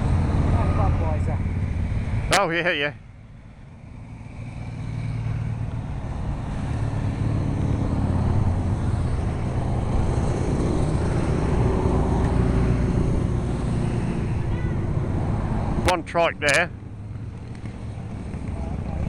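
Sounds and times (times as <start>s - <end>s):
motorcycles passing: 0.0s - 19.0s.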